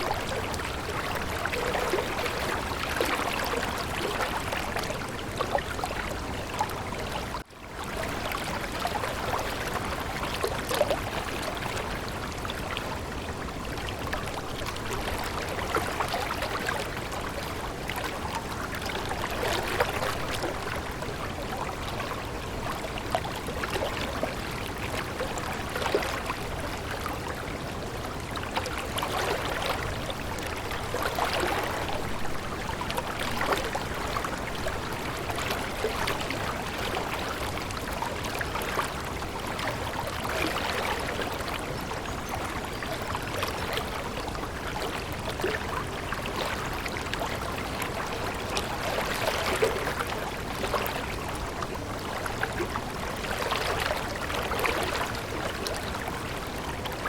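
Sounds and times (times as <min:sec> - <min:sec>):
water flowing and splashing: 0:00.0 - 0:57.0.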